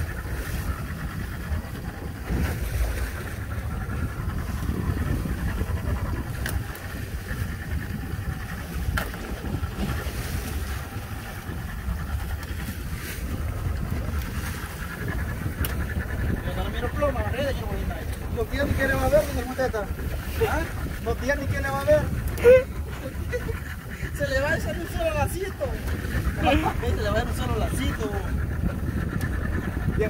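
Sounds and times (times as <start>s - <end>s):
boat engine rumble: 0.0s - 30.0s
water against hull: 0.0s - 30.0s
wind on microphone: 0.0s - 30.0s.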